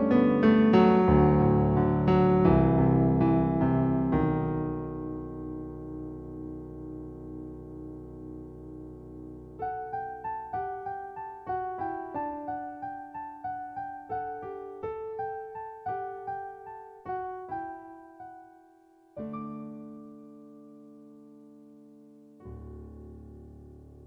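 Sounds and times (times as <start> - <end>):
piano melody: 0.0 - 24.0.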